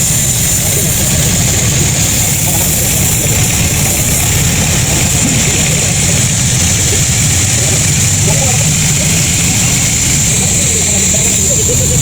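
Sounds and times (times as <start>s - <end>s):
high machine whine: 0.0s - 12.0s
sawmill machinery hum: 0.0s - 12.0s.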